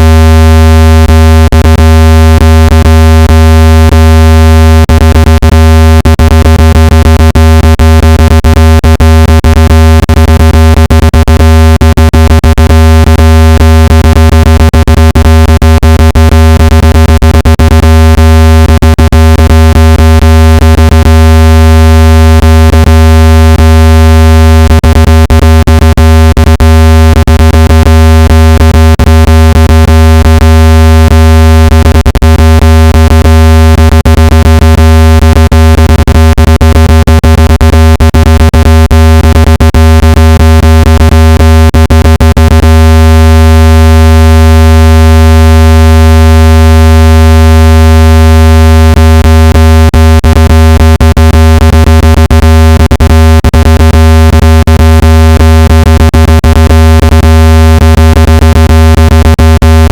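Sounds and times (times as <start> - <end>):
low electronic buzzing tone: 0.0 - 59.9.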